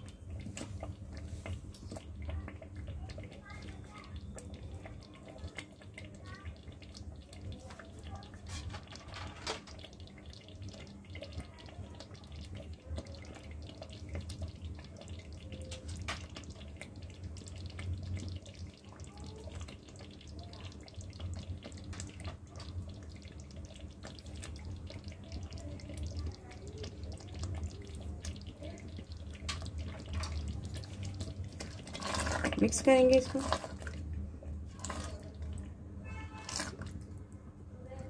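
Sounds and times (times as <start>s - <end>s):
gravy bubbling and popping: 0.0s - 38.0s
low steady hum: 0.0s - 38.0s.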